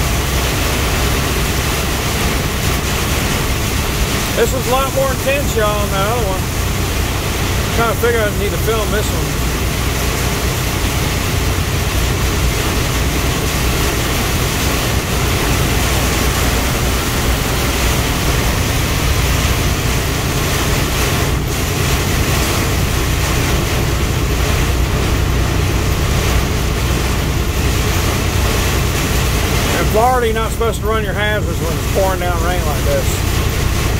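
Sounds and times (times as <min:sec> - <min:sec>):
rain beating on windshield: 0:00.0 - 0:33.9
truck engine and tyre rumble: 0:00.0 - 0:33.9.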